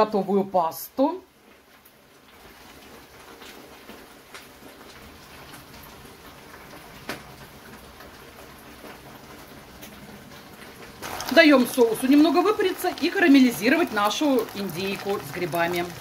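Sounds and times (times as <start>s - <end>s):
frying pan sizzling: 0.9s - 16.0s.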